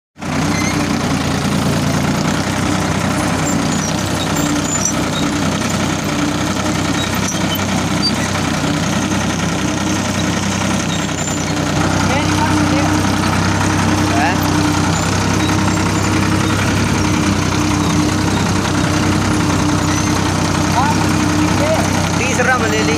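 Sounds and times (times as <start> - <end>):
tractor engine running: 0.2 - 22.9.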